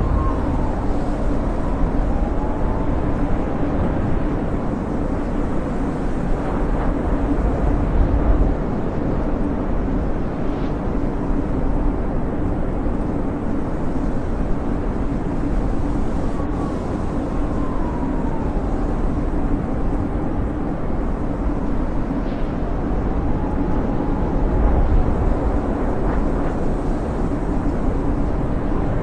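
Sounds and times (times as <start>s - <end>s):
faint wind whistle: 0.0s - 8.4s, 10.2s - 29.0s
snowstorm wind blowing: 0.0s - 29.0s.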